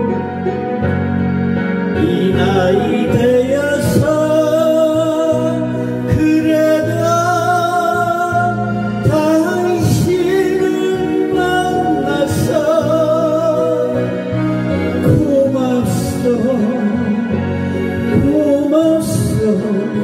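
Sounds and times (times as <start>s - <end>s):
recorded backing track: 0.0s - 20.0s
man singing into microphone: 1.8s - 20.0s.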